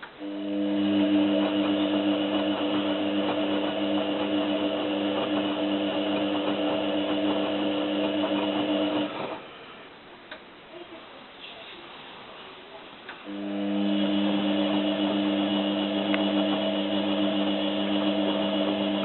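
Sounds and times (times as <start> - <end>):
washing machine drum motor humming: 0.0 - 9.8, 13.1 - 19.0.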